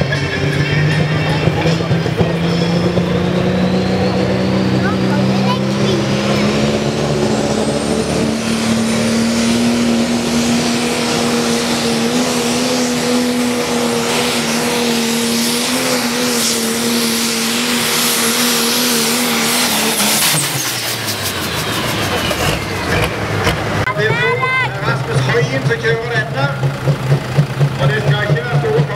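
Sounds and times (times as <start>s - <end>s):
tractor engine drone with whine: 0.0s - 28.9s.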